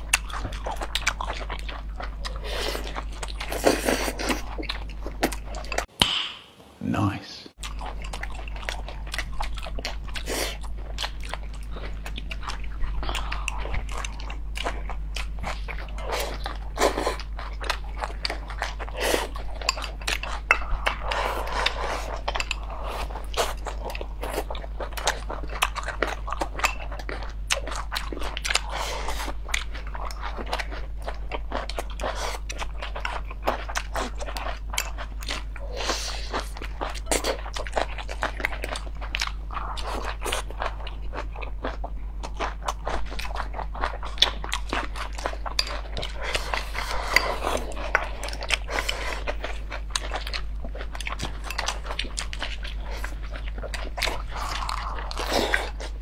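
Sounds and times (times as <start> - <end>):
people chewing food: 0.0 - 6.3, 7.5 - 56.0.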